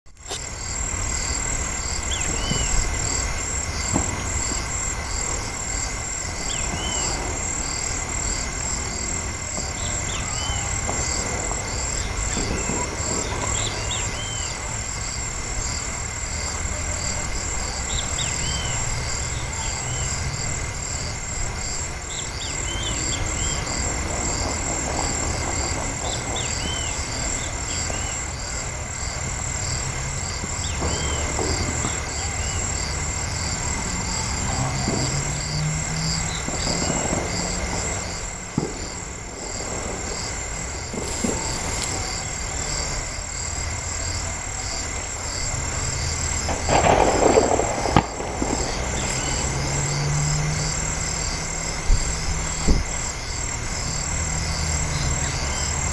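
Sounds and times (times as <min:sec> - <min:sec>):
high pulsing insect chorus: 0:00.1 - 0:55.9.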